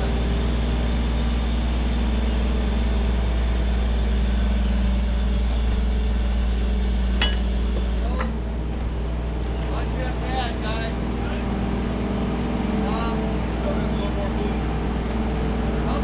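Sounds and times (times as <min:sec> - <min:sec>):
heavy machine engine running: 0:00.0 - 0:16.0.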